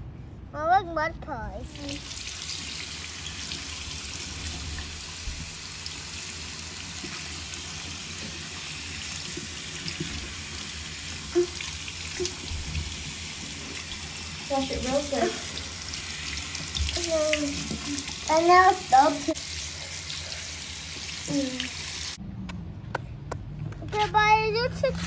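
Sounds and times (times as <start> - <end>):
faucet water splashing on hands: 1.7 - 22.2.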